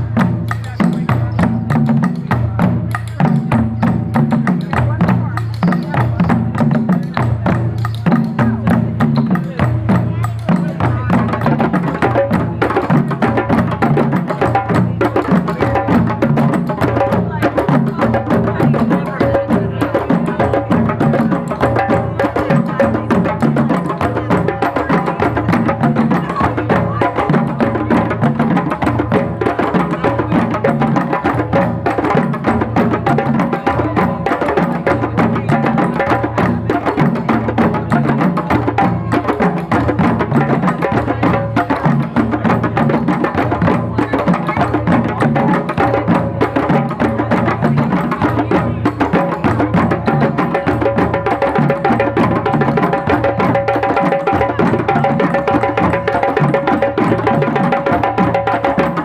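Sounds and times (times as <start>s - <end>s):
live music with fast percussion: 0.0s - 59.0s.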